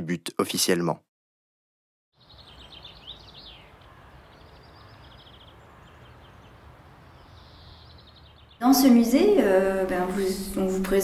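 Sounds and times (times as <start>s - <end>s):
small birds chirping: 2.1s - 11.0s.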